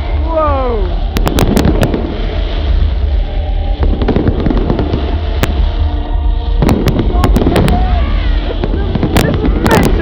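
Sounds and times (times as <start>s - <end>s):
fireworks popping and crackling: 0.0s - 10.0s
low rumble: 0.0s - 10.0s
firework bang: 1.0s - 10.0s.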